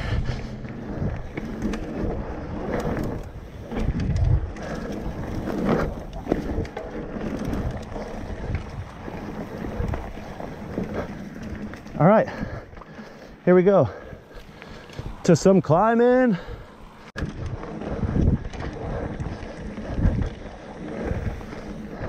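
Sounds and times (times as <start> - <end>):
bike rattling and knocking: 0.0 - 15.4, 17.1 - 22.0
bike tyre rumble on dirt: 0.0 - 22.0
wind buffeting microphone: 0.0 - 22.0.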